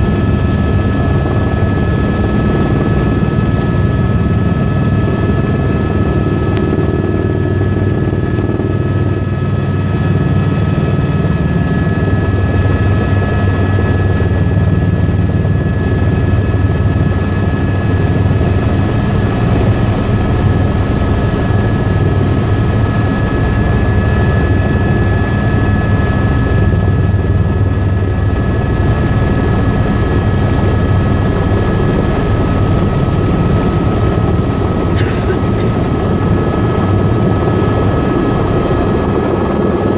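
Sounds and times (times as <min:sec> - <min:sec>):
constant high whine: 0:00.0 - 0:39.9
helicopter rotor and engine drone: 0:00.0 - 0:39.9.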